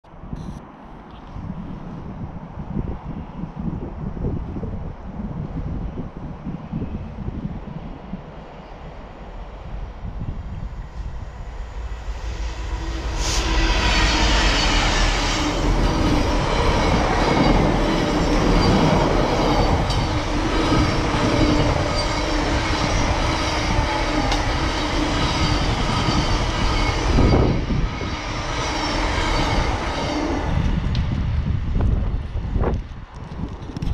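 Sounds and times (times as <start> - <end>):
diesel locomotive passing: 1.5 - 33.6.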